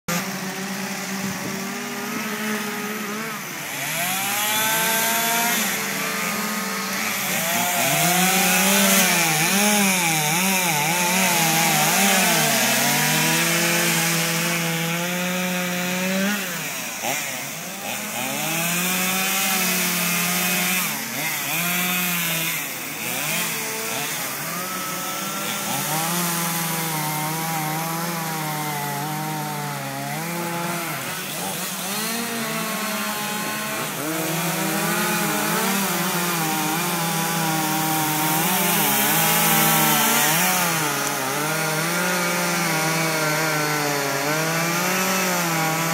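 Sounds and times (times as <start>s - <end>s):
chainsaws cutting wood: 0.1s - 45.9s.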